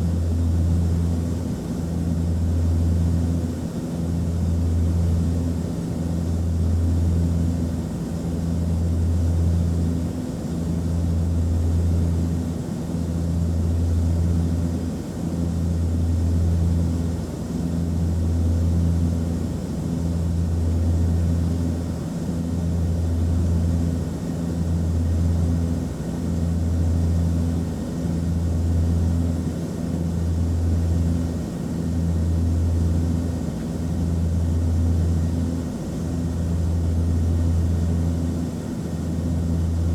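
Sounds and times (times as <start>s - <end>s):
turboprop cabin drone: 0.0s - 39.9s.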